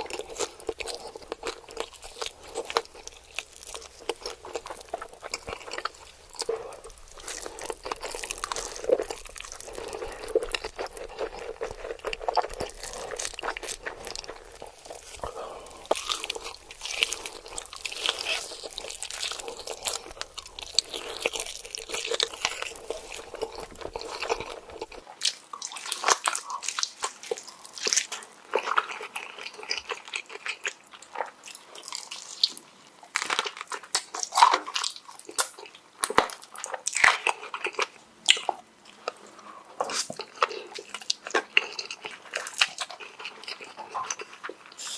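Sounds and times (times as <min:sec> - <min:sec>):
crunching and chewing food: 0:00.0 - 0:44.9.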